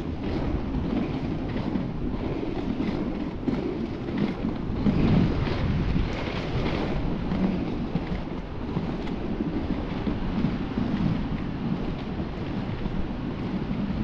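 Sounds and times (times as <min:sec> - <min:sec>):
skate wheels rolling on paving: 0:00.0 - 0:14.0
wind on microphone: 0:00.0 - 0:14.0.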